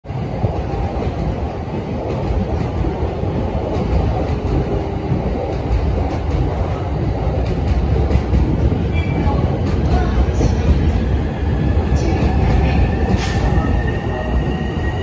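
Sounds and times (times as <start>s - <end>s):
rail traffic rumble and hum: 0.0s - 15.0s.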